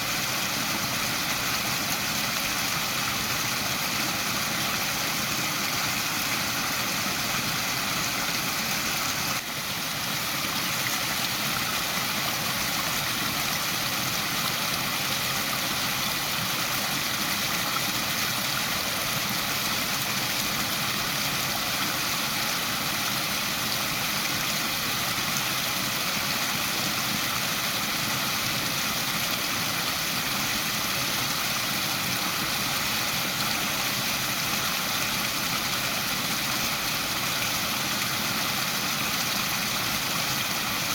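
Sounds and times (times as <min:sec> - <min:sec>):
waterfall pouring: 0:00.0 - 0:40.9.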